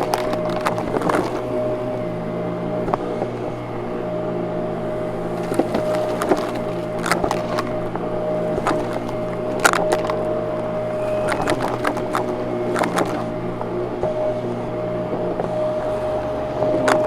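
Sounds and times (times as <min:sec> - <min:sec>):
sharp clicks and rattles: 0:00.0 - 0:03.5, 0:04.9 - 0:15.9
vacuum cleaner running: 0:00.0 - 0:17.0.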